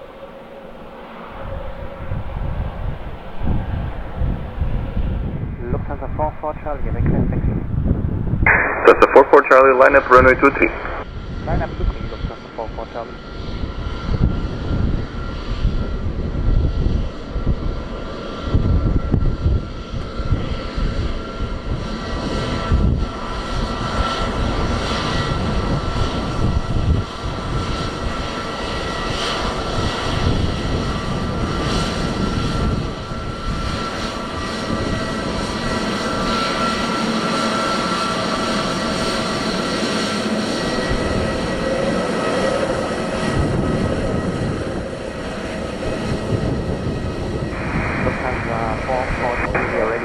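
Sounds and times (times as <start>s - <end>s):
jet engines idling whine: 0.0s - 50.0s
wind buffeting microphone: 1.2s - 9.2s, 10.0s - 50.0s.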